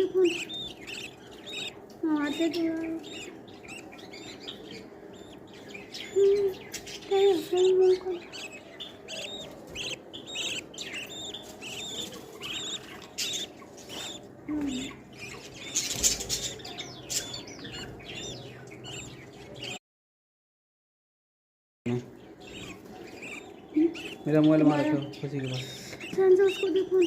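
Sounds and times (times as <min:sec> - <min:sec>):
nestling birds chirping: 0:00.0 - 0:19.8, 0:21.9 - 0:27.0.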